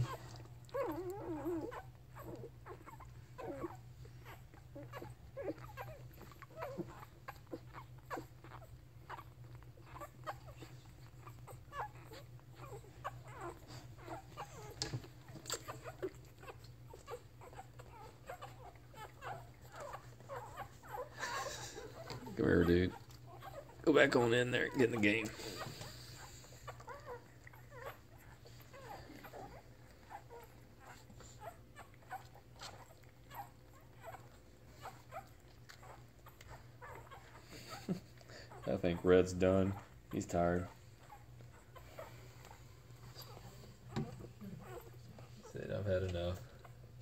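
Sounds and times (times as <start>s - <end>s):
puppies suckling clicks: 0.0s - 39.0s, 39.7s - 45.4s, 46.0s - 47.0s
puppies squeaking and whimpering: 0.0s - 47.0s
puppy whine: 0.0s - 47.0s.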